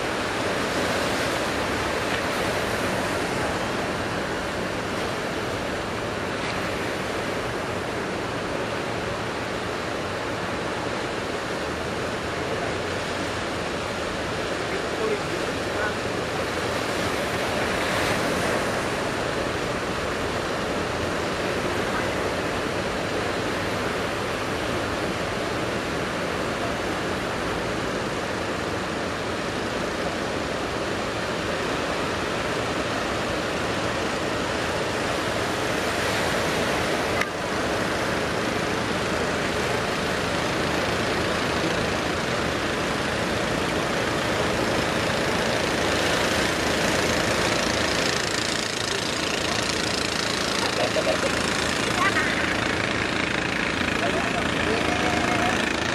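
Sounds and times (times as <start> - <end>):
ocean surf breaking: 0.0 - 55.9.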